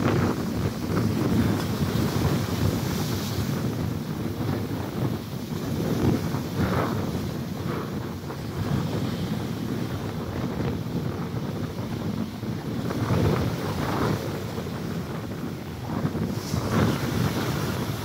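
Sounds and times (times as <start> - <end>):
waves breaking on a beach: 0.0 - 18.0
wind buffeting microphone: 0.0 - 18.0.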